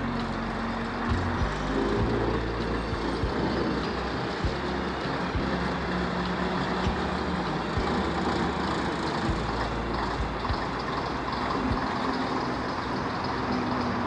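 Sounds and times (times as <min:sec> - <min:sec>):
bus engine running: 0:00.0 - 0:14.0.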